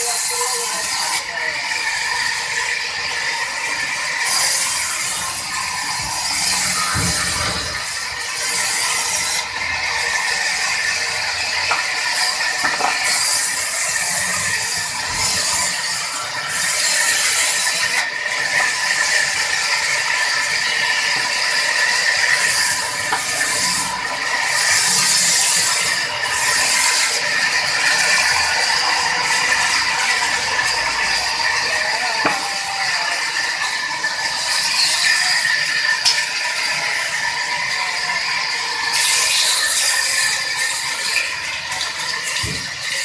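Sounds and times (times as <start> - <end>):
sawmill saw cutting wood: 0.0 - 43.0.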